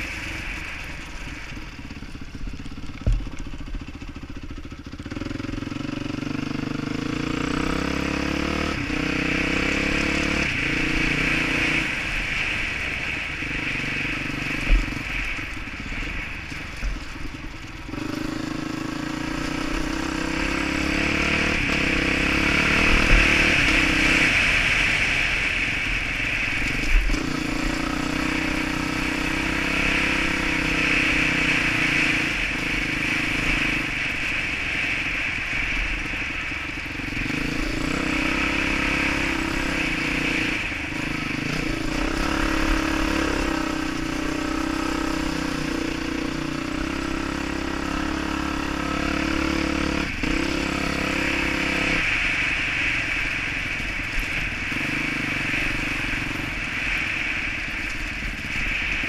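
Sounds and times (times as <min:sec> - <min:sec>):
dirt bike engine revving: 0:03.0 - 0:16.6, 0:17.5 - 0:59.0.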